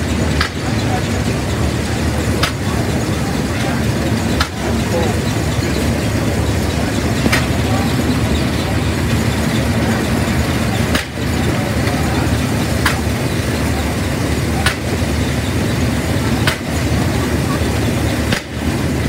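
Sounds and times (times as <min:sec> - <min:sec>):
threshing machinery rumbling: 0:00.0 - 0:19.0.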